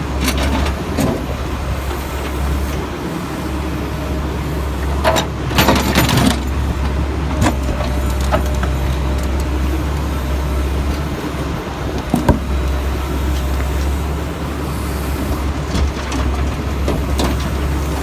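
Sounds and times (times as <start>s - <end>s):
backhoe engine running: 0.0s - 18.0s.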